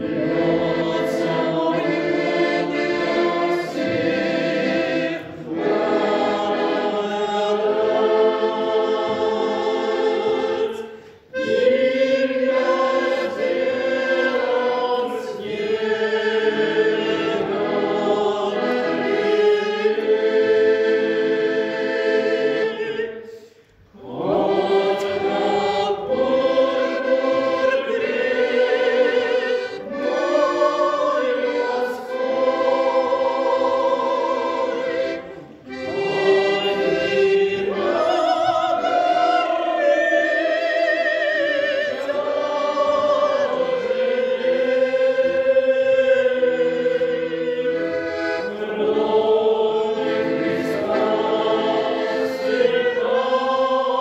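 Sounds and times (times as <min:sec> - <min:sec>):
church choir singing a hymn: 0:00.0 - 0:54.0.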